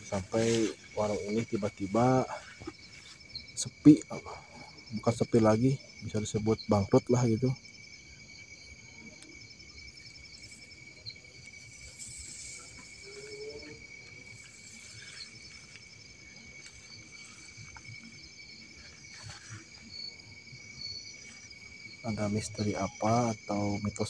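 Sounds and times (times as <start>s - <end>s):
insect pulsed chirp: 0.0s - 24.0s
insects trilling: 0.0s - 24.0s.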